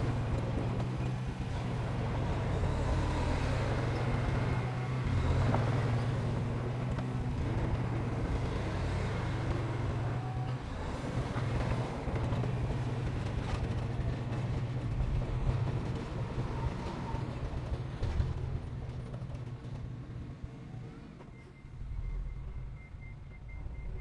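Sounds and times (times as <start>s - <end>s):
diesel machinery engine drone: 0.0s - 24.0s.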